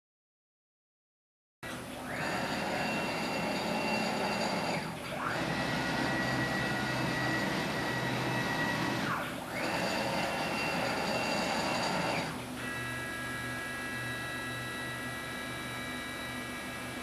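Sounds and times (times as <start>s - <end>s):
mechanical hum: 1.6s - 17.0s
stepper motors whining: 1.7s - 17.0s.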